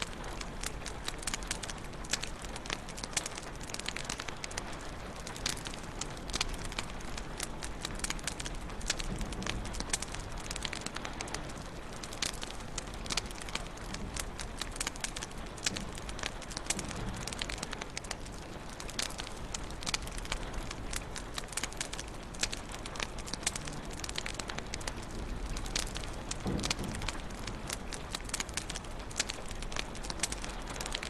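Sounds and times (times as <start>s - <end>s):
fire crackling and popping: 0.0s - 31.0s
low fire hiss: 0.0s - 31.0s.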